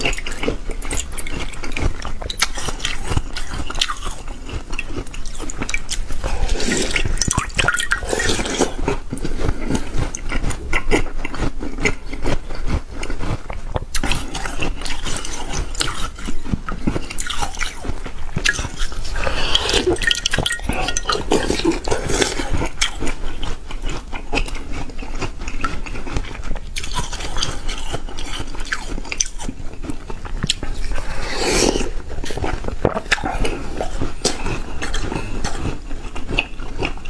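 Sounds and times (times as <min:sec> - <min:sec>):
person chewing crunchy ice: 0:00.0 - 0:37.0.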